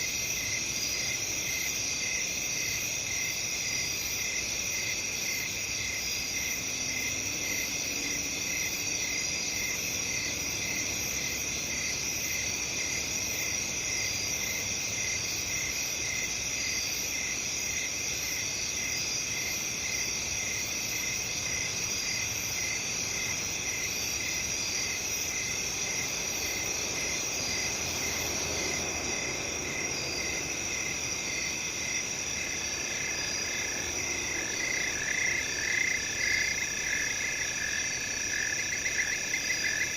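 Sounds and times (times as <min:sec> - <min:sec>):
crickets chirping: 0:00.0 - 0:39.9
pulsing insect call: 0:00.0 - 0:39.9.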